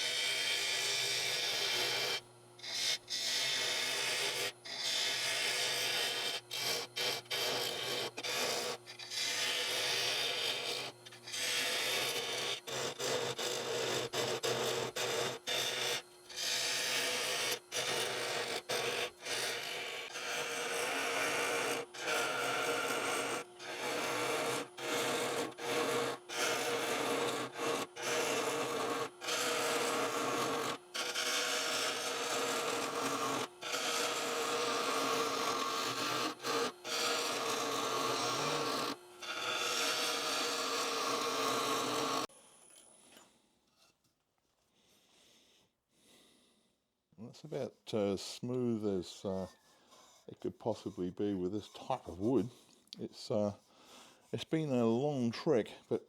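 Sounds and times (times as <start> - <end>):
lathe tool rasping on wood: 0.0 - 42.3, 47.4 - 55.8.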